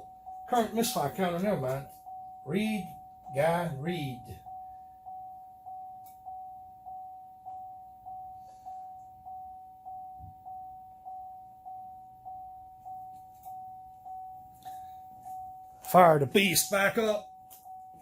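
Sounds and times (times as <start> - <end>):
car warning chime dinging: 0.0 - 18.0.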